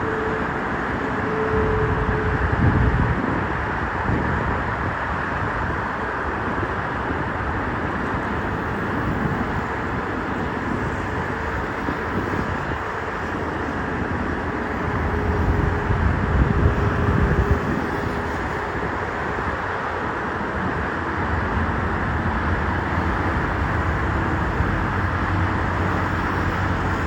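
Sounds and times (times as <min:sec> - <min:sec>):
faint engine whine: 0:00.0 - 0:27.0.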